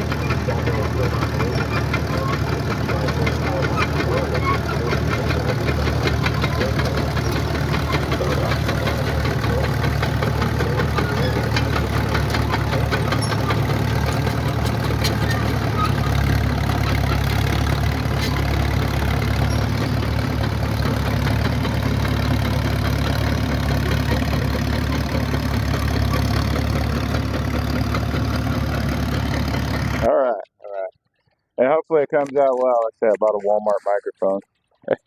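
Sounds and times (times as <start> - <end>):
heavy equipment engine idling: 0.0 - 30.1.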